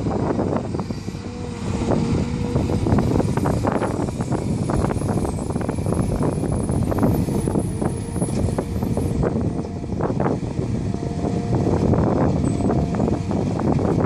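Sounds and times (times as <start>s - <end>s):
heavy diesel engines running: 0.0s - 14.0s.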